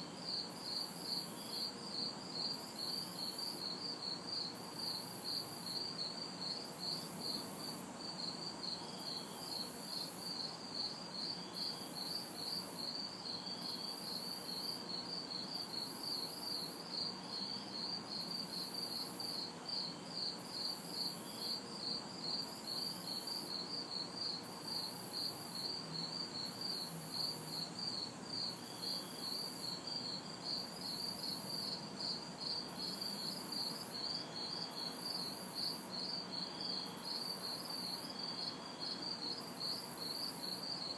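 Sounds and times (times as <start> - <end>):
crickets chirping trill: 0.0 - 40.9.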